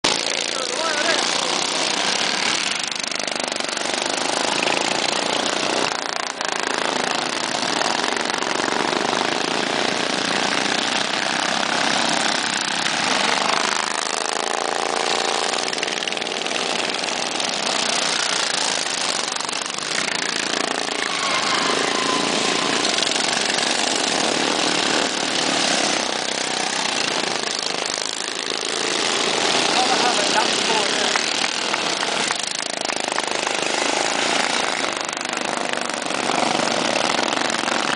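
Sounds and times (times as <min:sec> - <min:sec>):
lawn mower engines running hard: 0:00.0 - 0:37.9
engine pitch wavering: 0:00.1 - 0:37.9.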